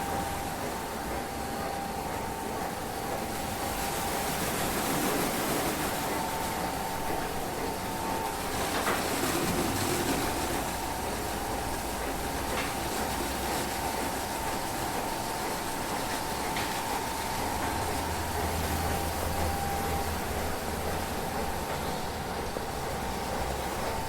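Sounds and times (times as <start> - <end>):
thin steady whine: 0.0 - 24.0
train running on rails: 0.0 - 24.0.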